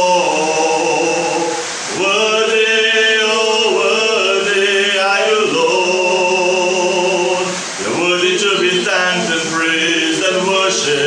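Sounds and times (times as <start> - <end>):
man singing slowly: 0.0 - 11.0.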